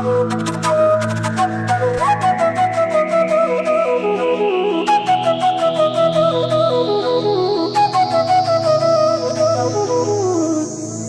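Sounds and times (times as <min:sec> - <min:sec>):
flute melody: 0:00.0 - 0:11.0.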